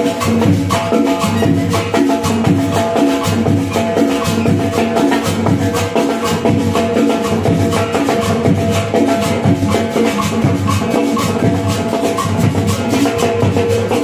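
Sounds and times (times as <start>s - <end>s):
drums beating a steady rhythm: 0.0s - 14.0s
marching band playing: 0.1s - 14.0s.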